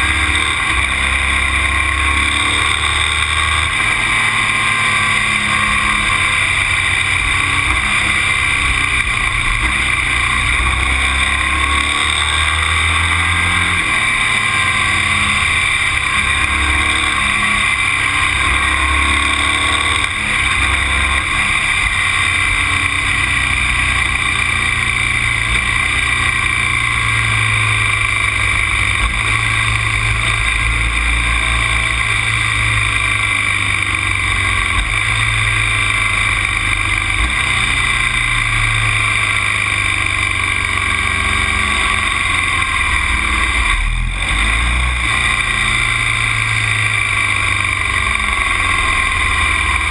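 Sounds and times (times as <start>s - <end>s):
vehicle engine: 0.0s - 49.9s
wind and road noise: 0.0s - 49.9s.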